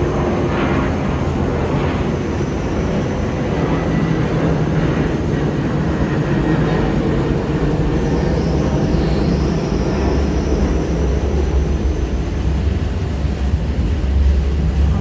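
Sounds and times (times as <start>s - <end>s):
faint high whine: 0.0s - 14.3s
electric train rumble: 0.0s - 15.0s.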